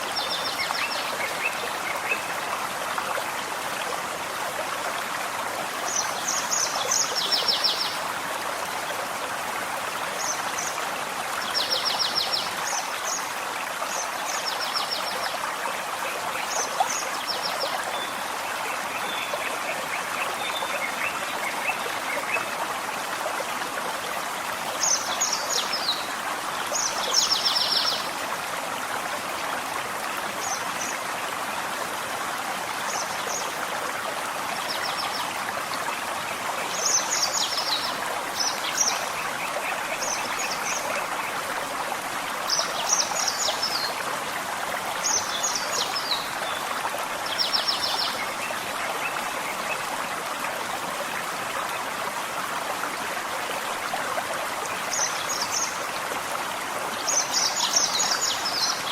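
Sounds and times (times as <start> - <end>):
forest stream running: 0.0 - 58.9.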